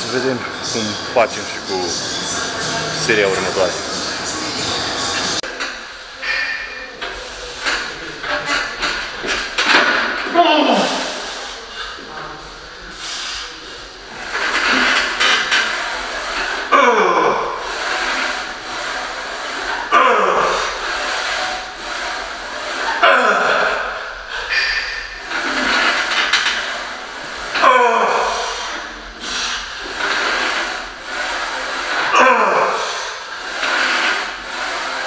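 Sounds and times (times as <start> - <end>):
noisy background: 0.0 - 35.0.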